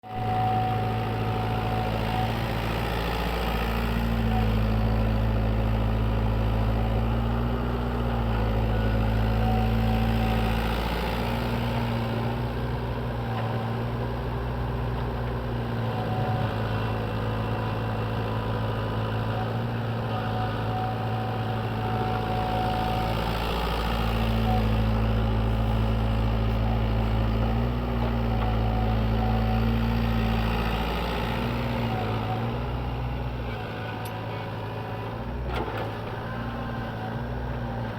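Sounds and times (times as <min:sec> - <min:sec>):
excavator diesel engine running: 0:00.1 - 0:37.9.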